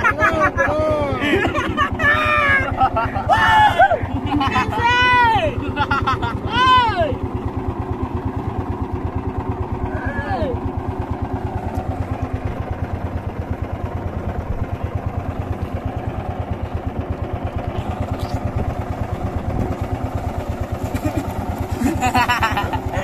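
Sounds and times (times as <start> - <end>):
small boat motor puttering: 0.0 - 23.0.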